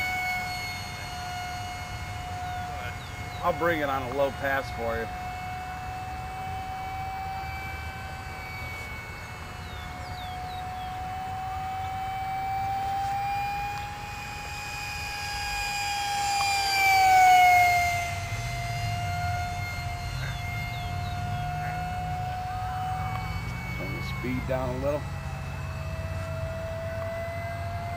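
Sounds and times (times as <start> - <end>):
model jet fan whining: 0.0 - 27.9.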